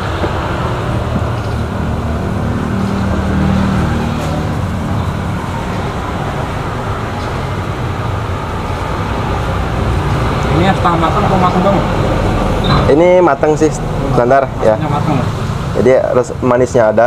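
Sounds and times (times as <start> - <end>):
road traffic rumble: 0.0 - 17.0
vehicle engine hum: 0.0 - 17.0.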